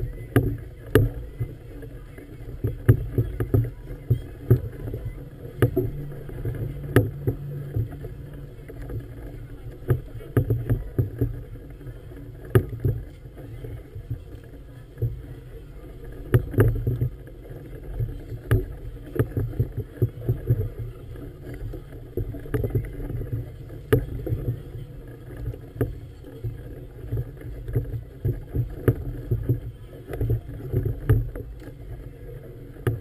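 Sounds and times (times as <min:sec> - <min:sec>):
low rumble: 0:00.0 - 0:33.0
water slapping against hull: 0:00.0 - 0:33.0.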